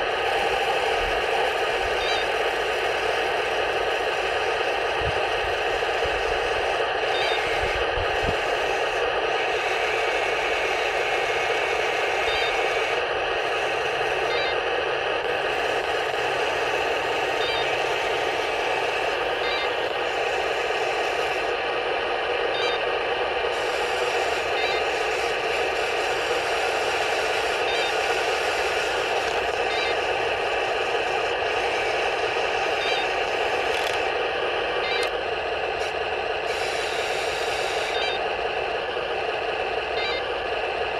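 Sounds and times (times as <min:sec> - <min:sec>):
toy tank engine sound from speaker: 0:00.0 - 0:40.9.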